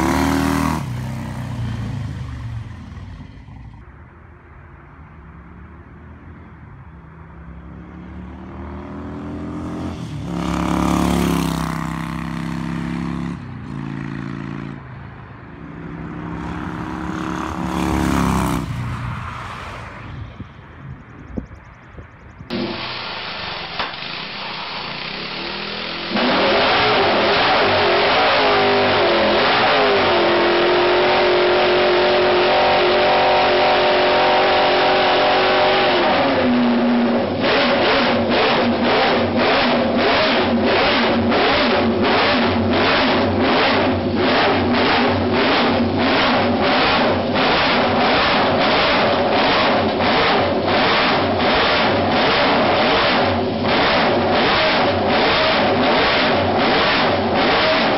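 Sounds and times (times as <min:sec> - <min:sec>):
motorcycle engine running loudly: 0:00.0 - 0:03.8, 0:09.1 - 0:14.8, 0:15.8 - 0:18.7, 0:21.1 - 0:57.9.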